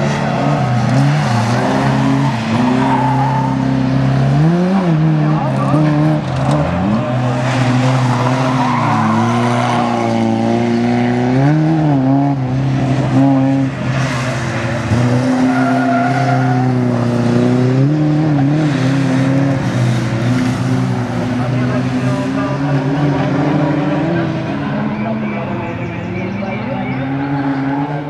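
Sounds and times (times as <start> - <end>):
race car engines at high revs: 0.0 - 28.0.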